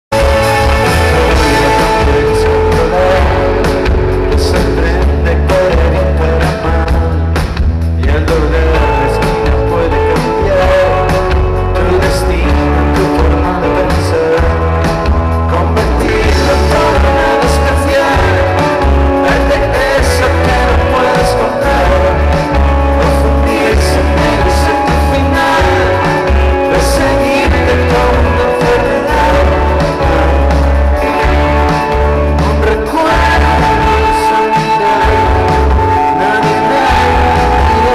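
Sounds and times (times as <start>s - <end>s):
live rock band playing: 0.1s - 37.9s
person singing: 0.2s - 37.9s.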